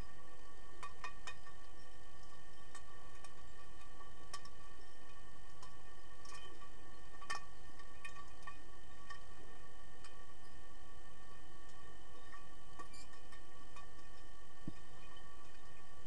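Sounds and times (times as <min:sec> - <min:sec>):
faint steady tones: 0:00.0 - 0:16.0.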